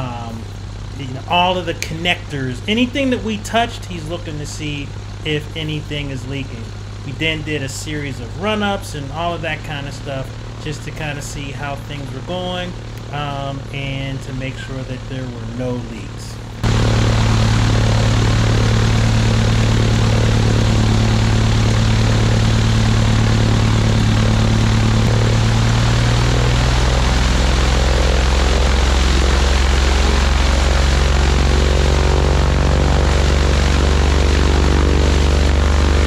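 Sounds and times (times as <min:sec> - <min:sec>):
propeller aircraft engine running: 0:00.0 - 0:36.0.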